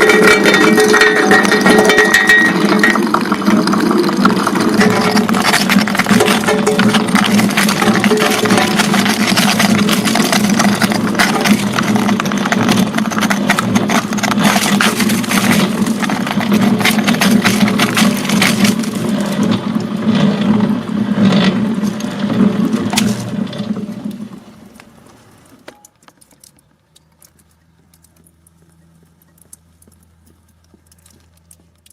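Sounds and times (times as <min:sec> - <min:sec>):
ice crushing machine grinding: 0:00.0 - 0:25.6.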